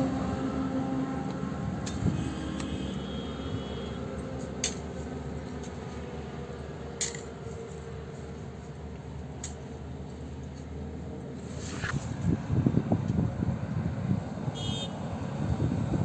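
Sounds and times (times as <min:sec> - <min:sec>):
construction site hum: 0:00.0 - 0:16.0.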